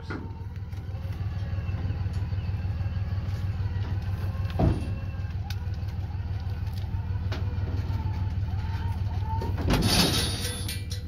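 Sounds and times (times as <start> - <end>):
low motor drone: 0.0 - 9.8.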